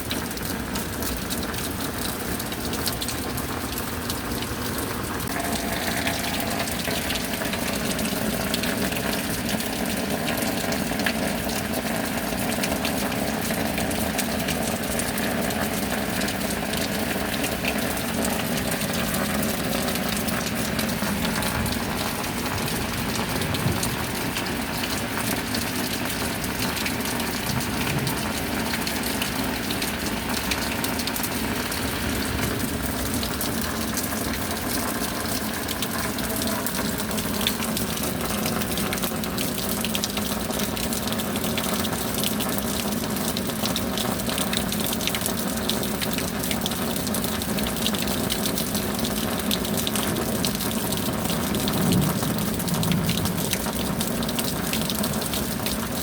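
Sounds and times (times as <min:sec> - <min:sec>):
rain falling: 0:00.0 - 0:56.0
water gushing and pouring: 0:00.0 - 0:56.0.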